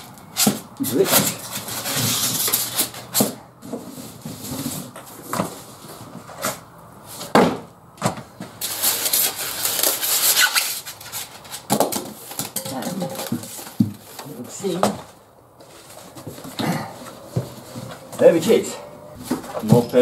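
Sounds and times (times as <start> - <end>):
cardboard rustling and scraping: 0.0 - 18.6.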